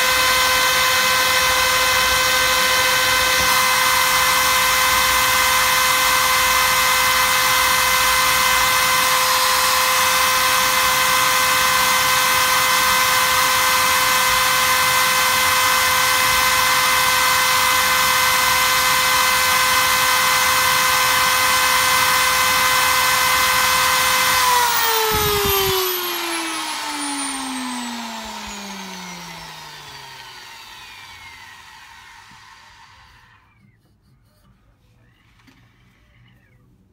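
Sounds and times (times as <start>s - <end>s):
lathe motor whine: 0.0s - 33.8s.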